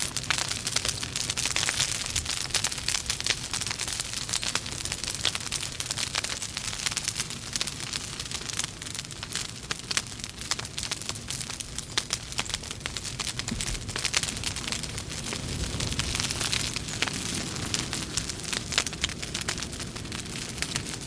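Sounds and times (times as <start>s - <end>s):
logs crackling in a fireplace: 0.0s - 21.0s.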